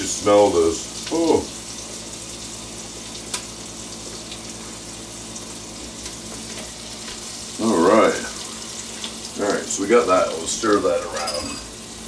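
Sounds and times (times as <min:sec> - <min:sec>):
onion sizzling in butter: 0:00.0 - 0:12.0.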